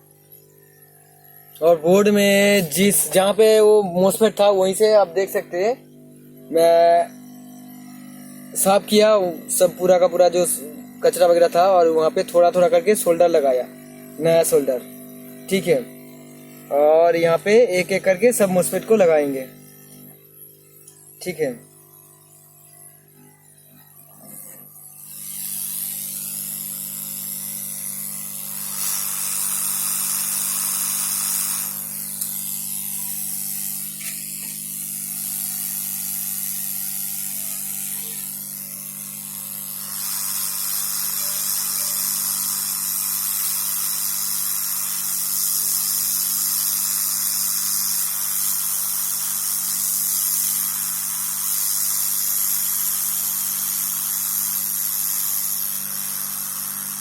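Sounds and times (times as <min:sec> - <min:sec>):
hot air blower jet: 0:01.5 - 0:20.2, 0:23.2 - 0:57.0.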